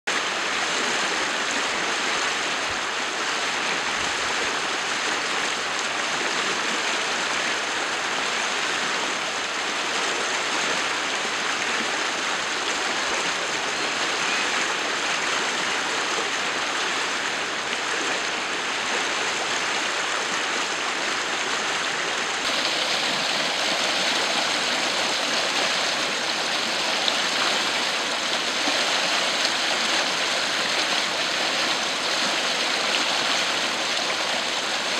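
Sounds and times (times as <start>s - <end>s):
floodwater rushing down a stream: 0.1s - 34.9s.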